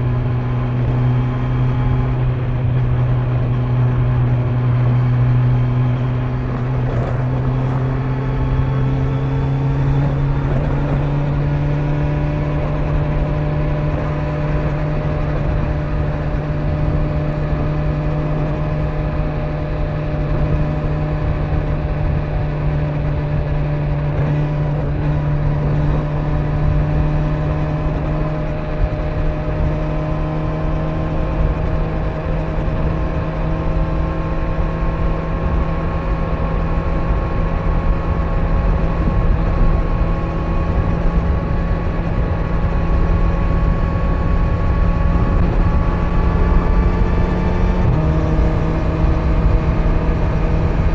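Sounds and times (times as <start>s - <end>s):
motorcycle engine cruising: 0.0s - 50.9s
wind noise: 0.0s - 50.9s.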